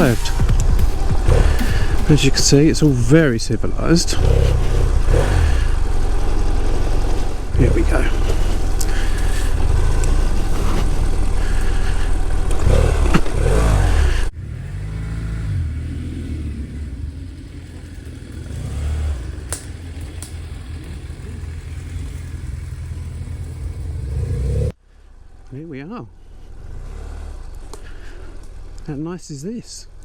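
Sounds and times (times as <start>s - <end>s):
motorcycle engine revving: 0.0s - 24.8s, 25.8s - 29.0s.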